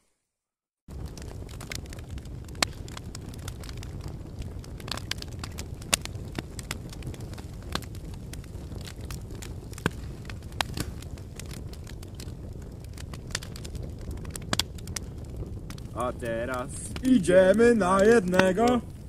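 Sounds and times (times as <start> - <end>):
campfire crackling and popping: 0.9 - 19.0
low steady fire rush: 0.9 - 19.0.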